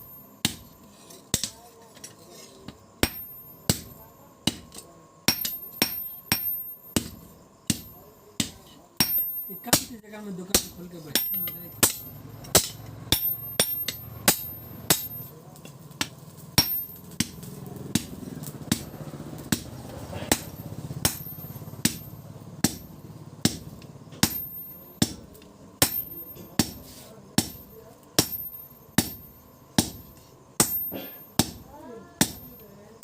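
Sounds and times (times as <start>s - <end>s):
hammer striking steel: 0.0s - 33.0s.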